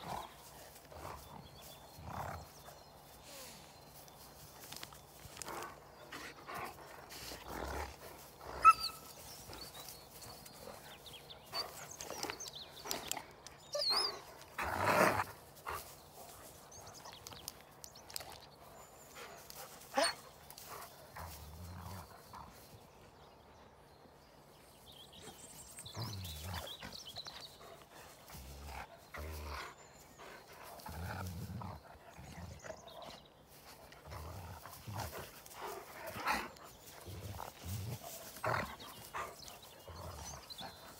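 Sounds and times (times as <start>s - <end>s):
scuffling in grass: 0.0s - 23.0s, 24.7s - 40.9s.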